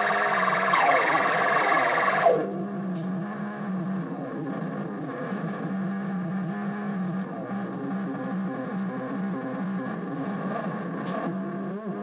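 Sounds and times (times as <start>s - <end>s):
low buzzy synthesizer drone: 0.0s - 12.0s.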